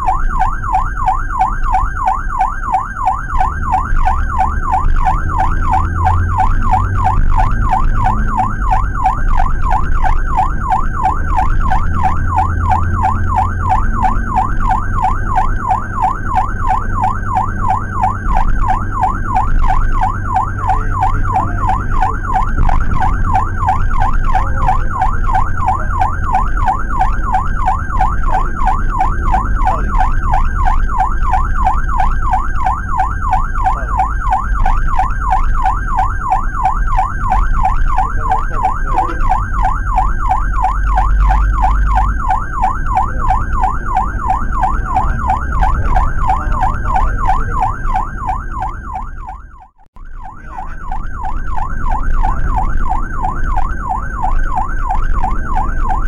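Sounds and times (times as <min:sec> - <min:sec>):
electronic siren yelping: 0:00.0 - 0:56.0
engine and road rumble: 0:00.0 - 0:56.0.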